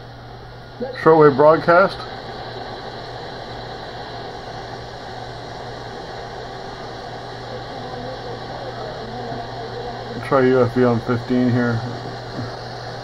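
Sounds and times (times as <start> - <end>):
low hum: 0.0 - 13.0
shortwave static hiss: 0.0 - 13.0.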